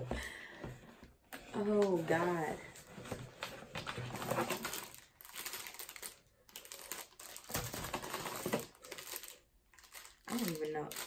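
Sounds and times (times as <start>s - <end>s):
packing material rustling: 1.8s - 11.0s.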